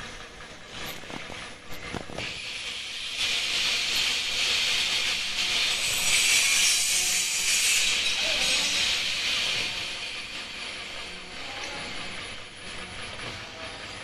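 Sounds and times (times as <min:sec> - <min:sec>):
mask-making machine hissing: 0:00.0 - 0:14.0.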